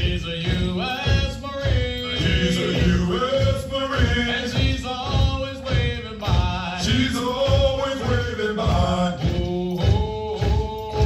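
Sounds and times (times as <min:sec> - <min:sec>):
men singing a marching cadence: 0:00.0 - 0:11.0
steady low beat: 0:00.0 - 0:11.0.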